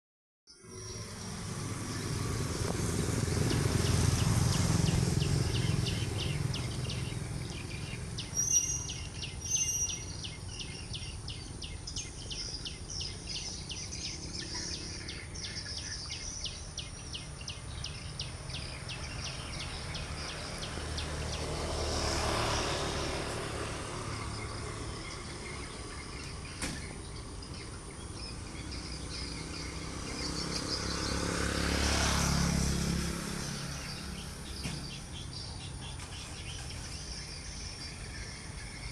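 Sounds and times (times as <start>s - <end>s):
bird chirping: 0.5s - 38.9s
vehicle passing: 0.7s - 38.9s.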